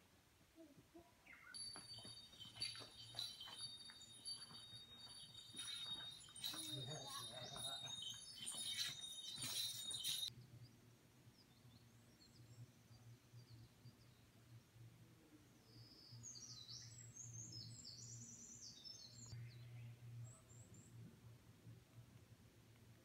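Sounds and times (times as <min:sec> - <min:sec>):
faint birdsong: 0:00.6 - 0:22.0.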